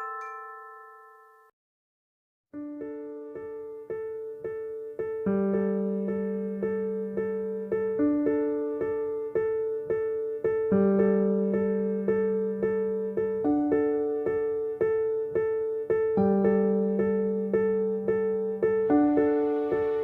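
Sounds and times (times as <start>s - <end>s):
electric piano ringtone melody: 0.0s - 1.5s, 2.6s - 20.0s.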